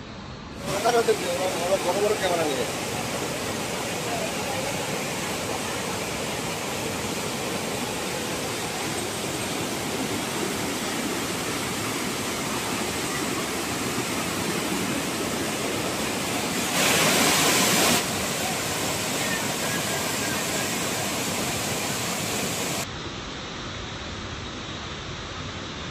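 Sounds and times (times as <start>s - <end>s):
waterfall rushing over rock: 0.5s - 22.9s.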